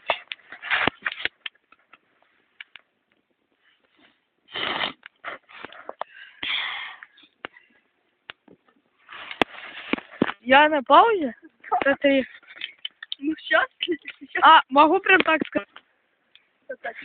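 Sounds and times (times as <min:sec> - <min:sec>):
campfire crackling: 0:00.0 - 0:16.8.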